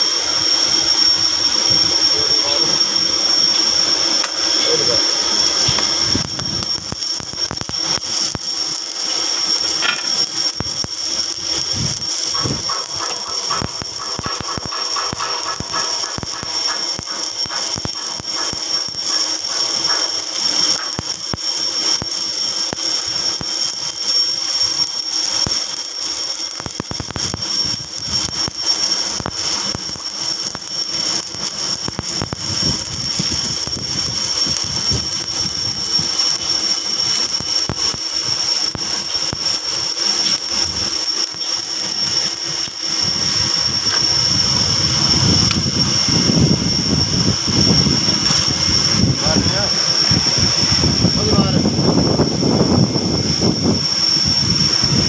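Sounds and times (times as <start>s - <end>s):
high-pitched whine: 0.0s - 55.0s
welding arc crackling: 0.0s - 55.0s.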